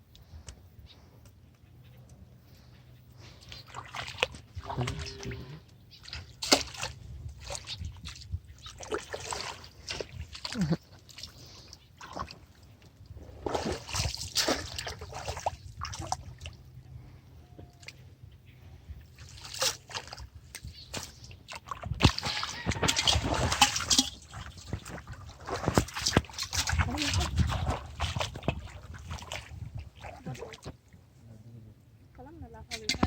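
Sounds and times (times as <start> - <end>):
water splashing and sloshing: 3.1 - 18.0, 18.9 - 31.1.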